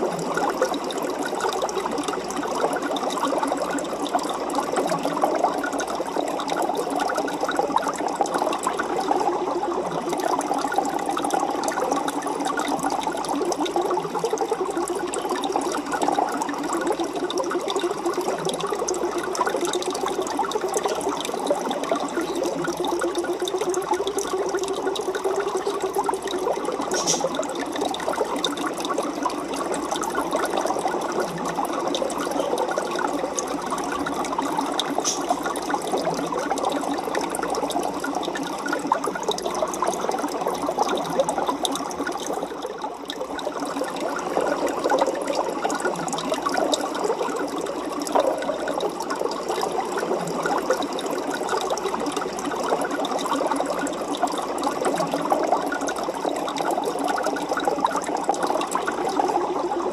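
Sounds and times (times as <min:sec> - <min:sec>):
aquarium water bubbling: 0:00.0 - 0:59.9.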